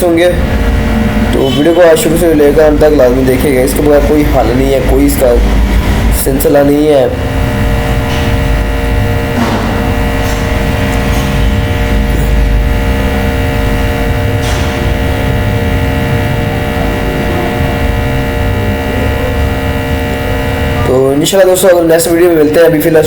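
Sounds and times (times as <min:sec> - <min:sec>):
low rumble: 0:00.0 - 0:20.9
steady electrical hum: 0:00.0 - 0:23.0.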